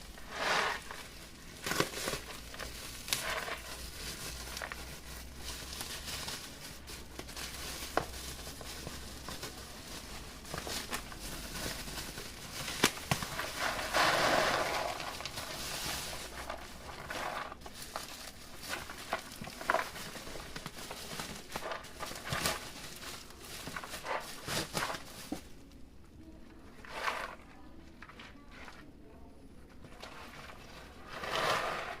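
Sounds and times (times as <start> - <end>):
plastic and cardboard crinkling: 0.0 - 32.0.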